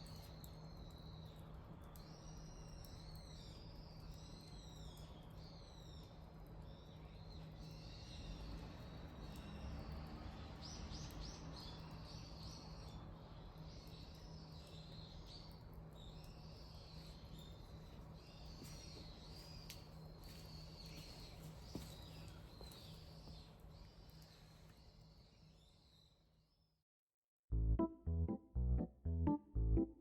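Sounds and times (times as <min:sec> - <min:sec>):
small birds chirping: 0:00.0 - 0:26.5.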